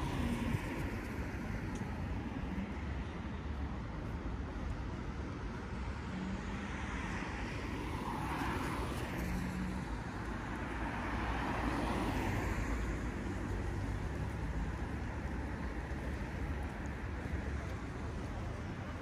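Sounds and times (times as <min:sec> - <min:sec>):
cars passing: 0:00.0 - 0:19.0
low traffic rumble: 0:00.0 - 0:19.0.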